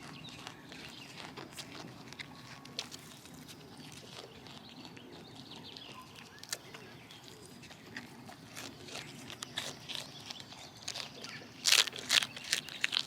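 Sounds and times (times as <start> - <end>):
light clicks and crunches: 0.0 - 13.0.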